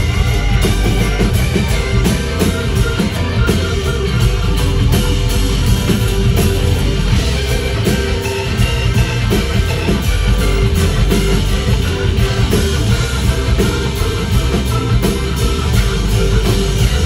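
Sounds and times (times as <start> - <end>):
live band playing: 0.0 - 17.0
steady drum beat: 0.0 - 17.0.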